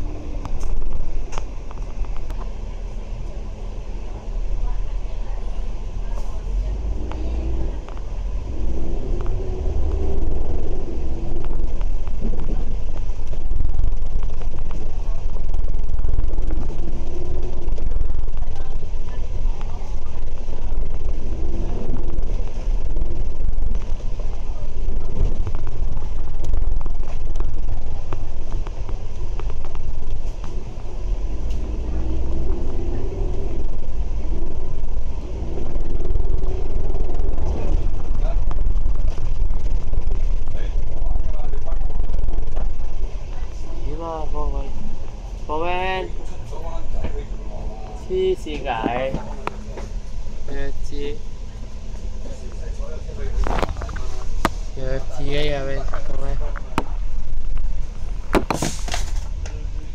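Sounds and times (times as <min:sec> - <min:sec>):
diesel bus engine rumble: 0:00.0 - 0:59.9
transmission whine: 0:00.0 - 0:59.9.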